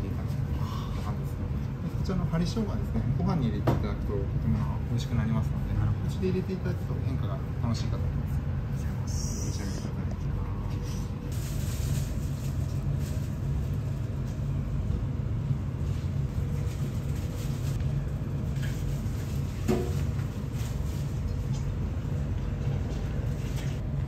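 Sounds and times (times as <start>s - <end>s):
restaurant room hum: 0.0s - 24.0s.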